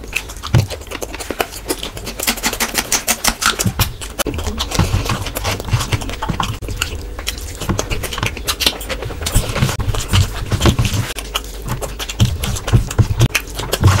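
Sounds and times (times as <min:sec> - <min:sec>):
wet chewing and mouth smacking: 0:00.0 - 0:14.0.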